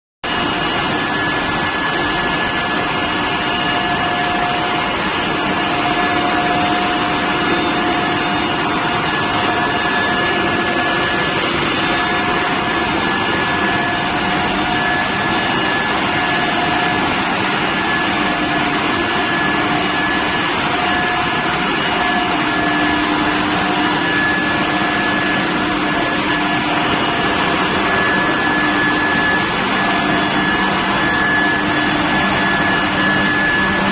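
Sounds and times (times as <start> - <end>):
high whine: 0.2 - 33.9
induction furnace machine noise: 0.2 - 33.9
low machine hums: 0.3 - 33.9.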